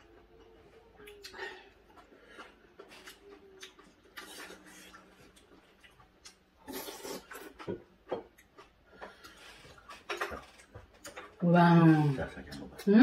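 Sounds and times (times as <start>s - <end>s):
chewing: 0.0s - 11.4s.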